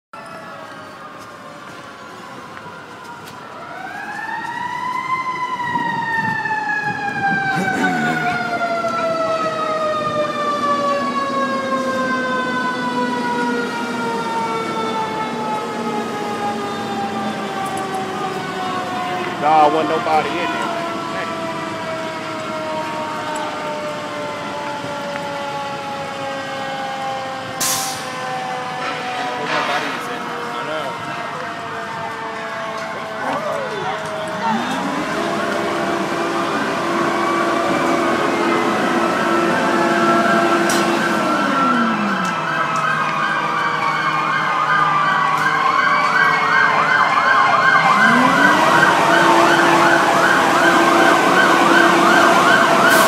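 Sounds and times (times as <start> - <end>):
fire truck siren wailing: 0.1 - 53.0.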